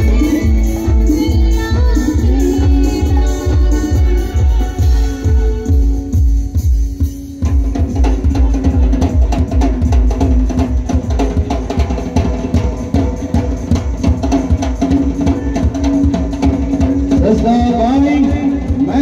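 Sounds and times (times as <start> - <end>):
heavy bass drum beat: 0.0 - 19.0
live band music: 0.0 - 19.0.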